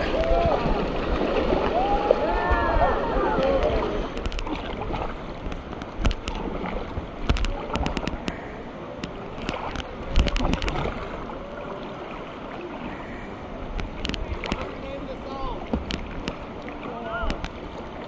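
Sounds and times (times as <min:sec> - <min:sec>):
paddle splashing in water: 0:00.0 - 0:18.0
water washing along hull: 0:00.0 - 0:18.0.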